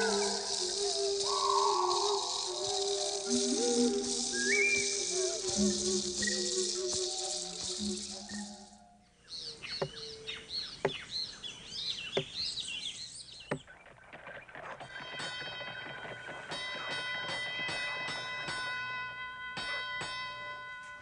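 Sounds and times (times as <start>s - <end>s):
birds chirping: 0.0s - 20.4s.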